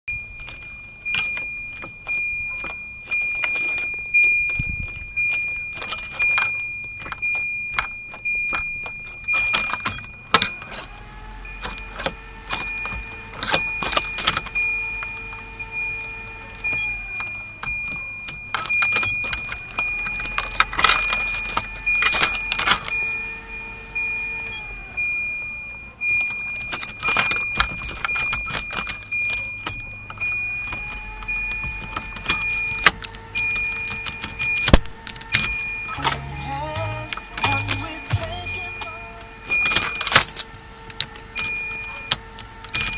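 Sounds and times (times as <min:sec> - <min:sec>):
high-pitched warning beep: 0:00.1 - 0:42.9
starter motor whining: 0:00.1 - 0:42.9
keys jangling and clicking: 0:00.2 - 0:23.4, 0:25.8 - 0:42.9.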